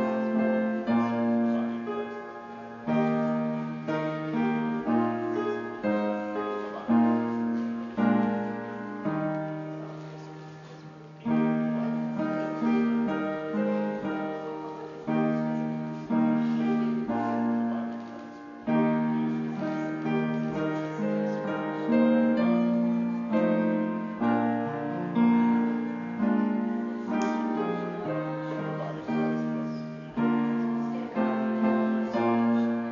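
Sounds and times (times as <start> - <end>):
slow piano chords: 0.0 - 32.9.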